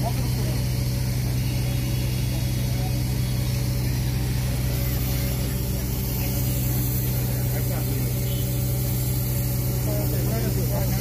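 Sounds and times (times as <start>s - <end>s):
faint voices: 0.0s - 11.0s
heavy machinery engine droning: 0.0s - 11.0s.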